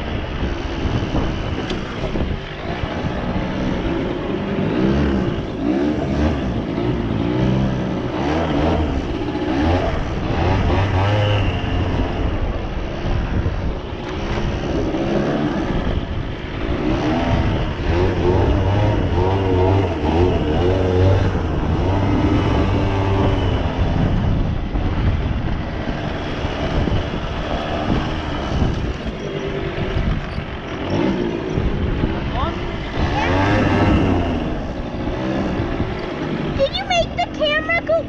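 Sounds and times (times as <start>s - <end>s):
two-stroke engine revving: 0.9s - 12.5s, 14.0s - 38.0s.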